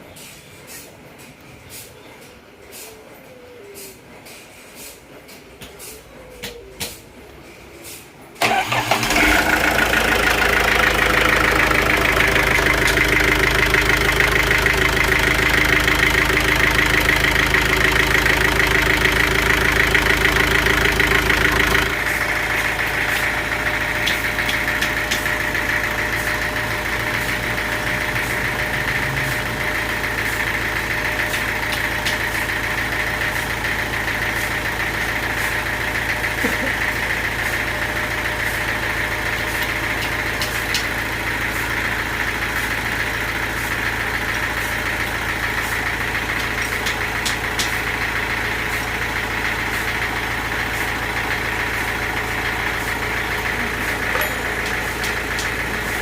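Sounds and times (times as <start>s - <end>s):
engine running: 8.4s - 56.0s.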